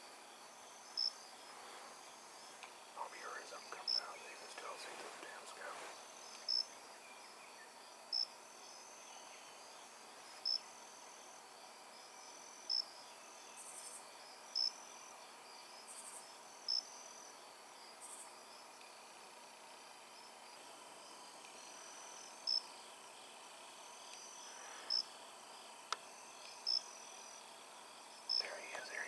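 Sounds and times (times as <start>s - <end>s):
cricket chirping: 0.0s - 29.0s
insect raspy buzzes: 0.0s - 29.0s
high-pitched insect trill: 0.4s - 29.0s.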